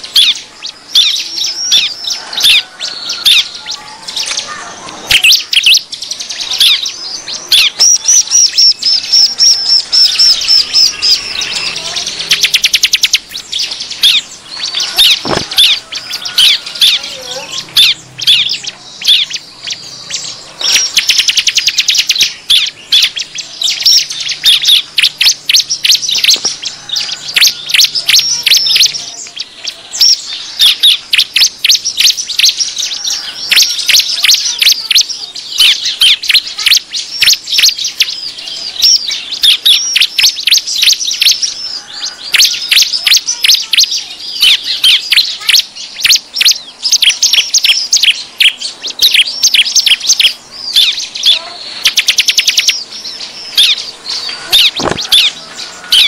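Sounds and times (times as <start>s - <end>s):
bird chirping sharply: 0.0s - 56.0s.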